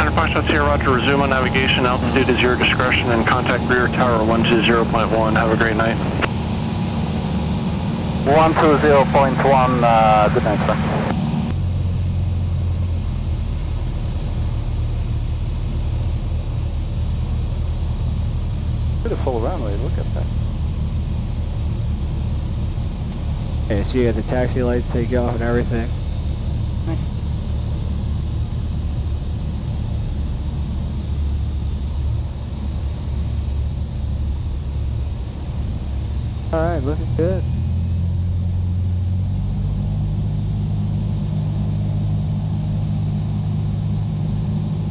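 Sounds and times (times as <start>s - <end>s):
airplane engine droning in cabin: 0.0s - 44.9s.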